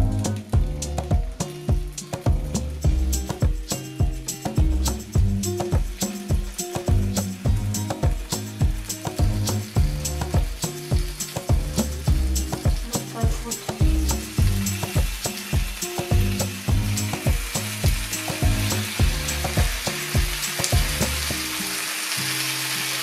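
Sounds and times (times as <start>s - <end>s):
music with steady beat: 0.0s - 21.7s
fish sizzling in frying pan: 0.0s - 23.0s.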